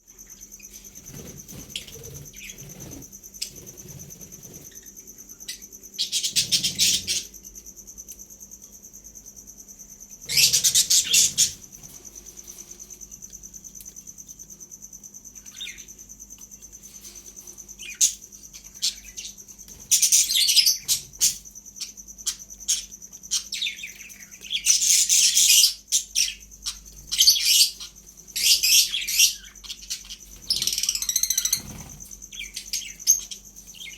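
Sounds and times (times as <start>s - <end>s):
parrot chicks chirping: 0.3s - 8.2s, 10.0s - 33.9s.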